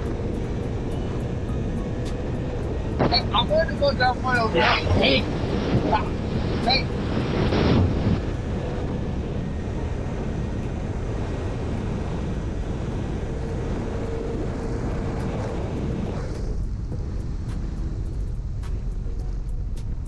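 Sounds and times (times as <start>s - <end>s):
motorcycle road noise: 0.0s - 20.0s
wind rushing: 0.0s - 20.0s.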